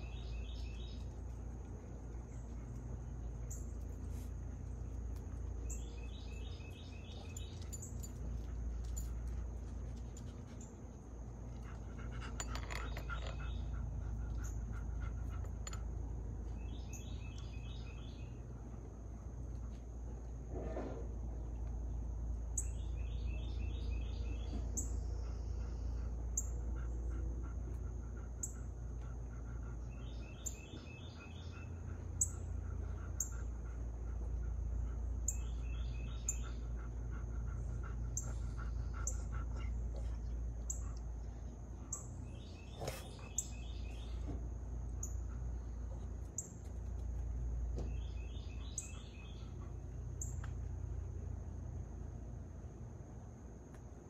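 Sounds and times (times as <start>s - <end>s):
low steady rumble: 0.0s - 54.0s.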